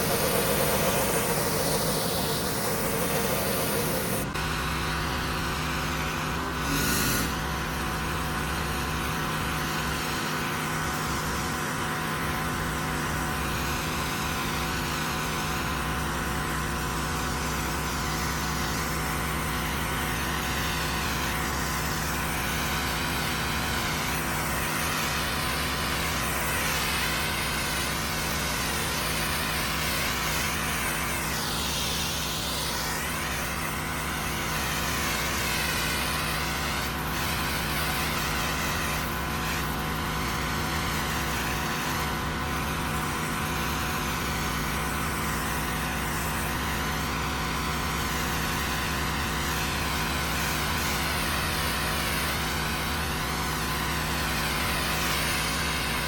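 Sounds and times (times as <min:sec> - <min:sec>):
water spraying onto concrete: 0:00.0 - 0:04.3, 0:06.0 - 0:56.0
pressure washer engine humming: 0:00.0 - 0:56.0.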